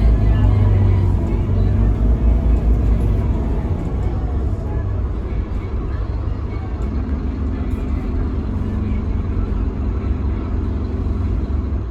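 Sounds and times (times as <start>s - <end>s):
diesel bus engine rumbling: 0.0s - 11.9s.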